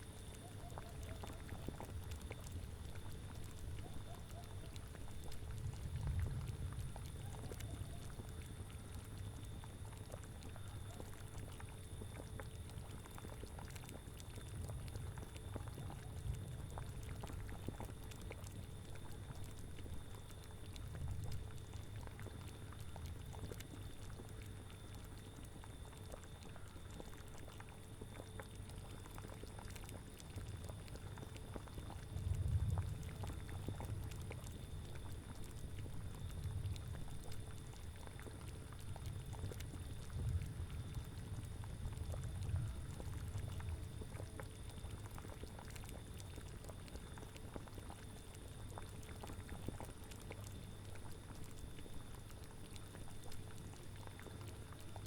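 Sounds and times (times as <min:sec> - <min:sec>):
thick liquid bubbling: 0:00.0 - 0:55.0.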